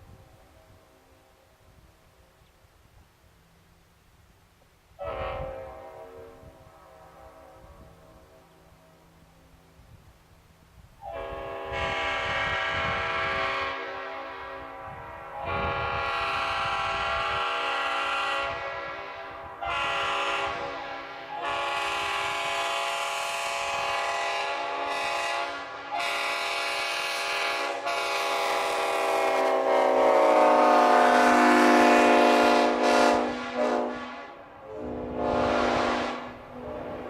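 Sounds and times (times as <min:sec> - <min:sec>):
locomotive air horn blasts: 0:00.0 - 0:01.7, 0:05.0 - 0:09.1, 0:11.0 - 0:37.0.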